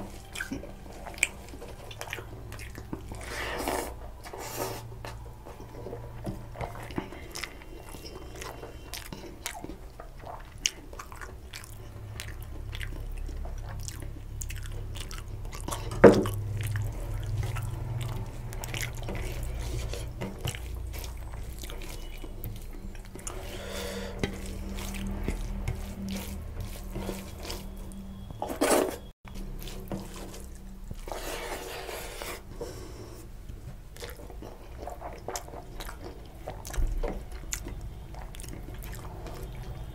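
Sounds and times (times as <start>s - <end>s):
person chewing and smacking: 0.0s - 28.4s, 29.2s - 31.2s, 33.3s - 39.9s.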